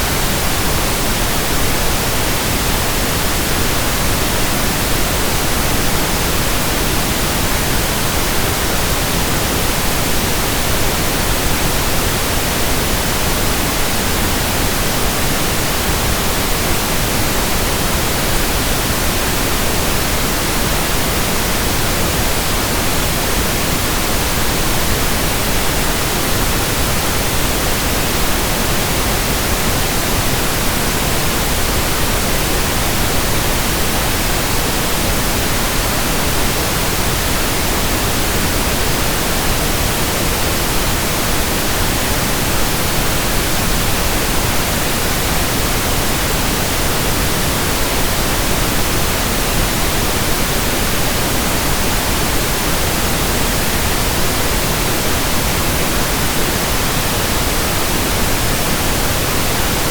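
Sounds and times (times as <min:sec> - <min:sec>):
pink noise hiss: 0:00.0 - 0:59.9.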